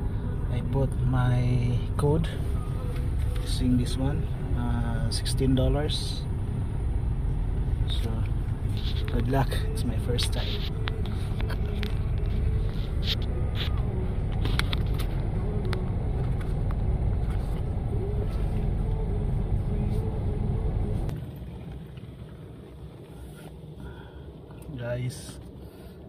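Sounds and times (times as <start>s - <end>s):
car engine rumble inside cabin: 0.0s - 26.0s.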